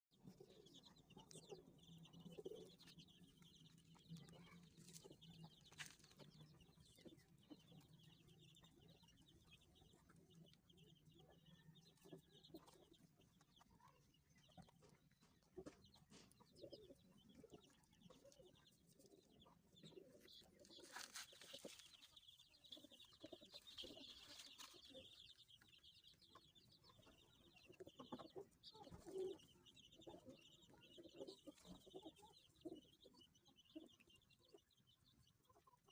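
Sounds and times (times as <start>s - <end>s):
chicks peeping: 0.1s - 35.9s.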